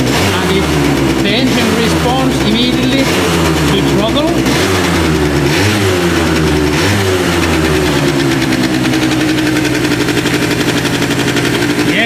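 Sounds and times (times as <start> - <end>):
small engine revving and idling: 0.0 - 12.0.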